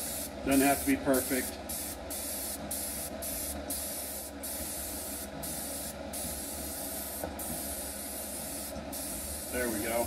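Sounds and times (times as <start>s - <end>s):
airbrush spraying hiss: 0.0s - 10.0s.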